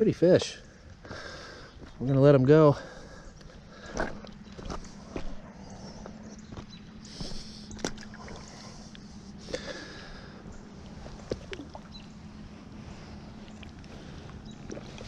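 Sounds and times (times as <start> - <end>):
river water running: 2.8 - 15.0.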